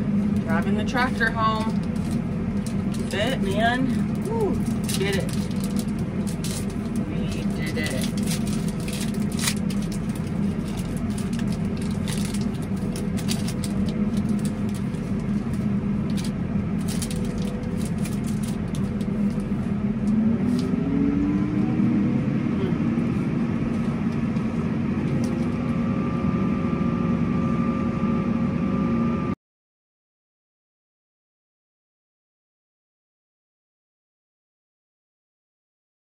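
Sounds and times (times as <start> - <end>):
tractor engine running: 0.0 - 29.3.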